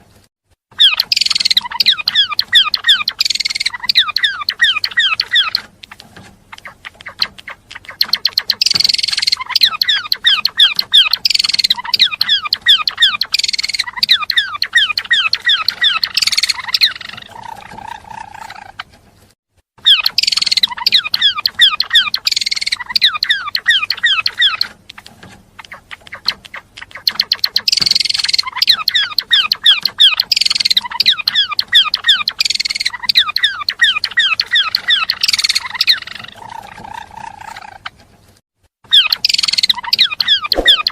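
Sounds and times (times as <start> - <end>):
songbird chirps and trills: 0.7 - 40.9.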